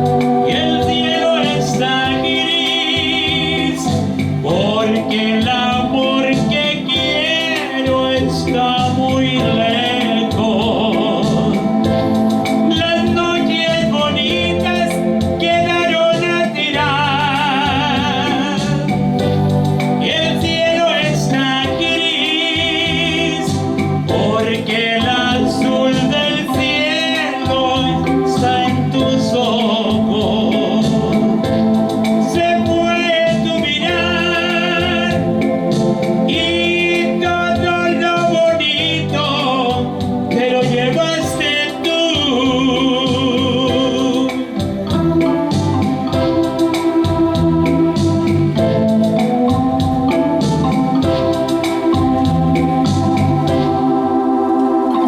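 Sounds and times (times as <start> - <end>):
band playing instrumental song: 0.0 - 55.0.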